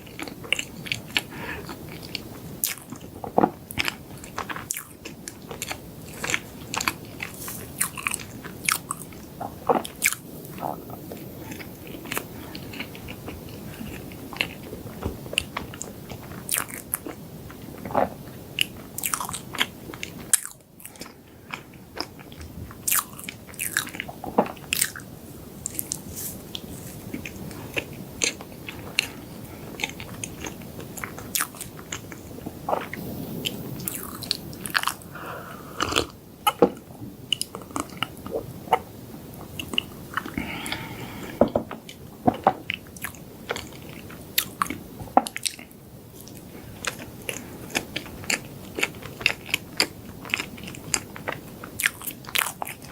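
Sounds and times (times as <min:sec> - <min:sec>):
chewing and crunching: 0:00.0 - 0:35.1, 0:35.8 - 0:52.9.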